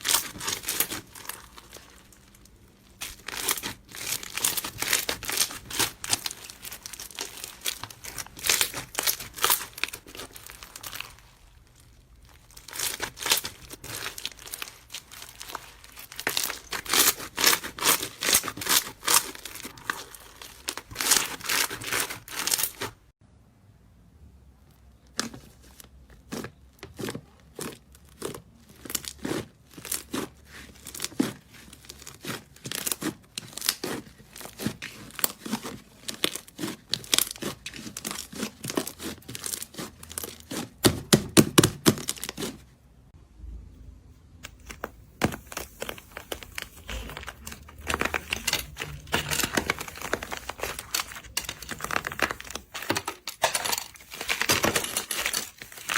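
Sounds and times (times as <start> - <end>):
slime crackling and popping: 0.0 - 23.1, 26.3 - 42.6, 44.5 - 55.9.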